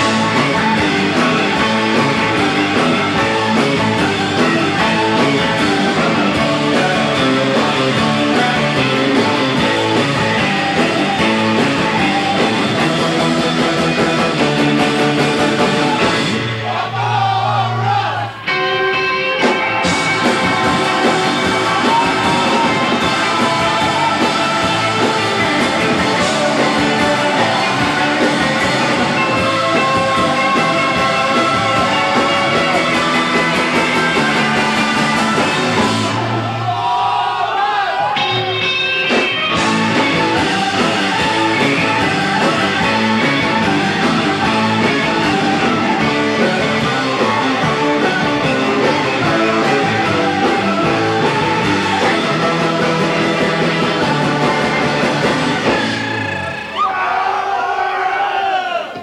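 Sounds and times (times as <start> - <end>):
surf rock band playing: 0.0 - 58.2.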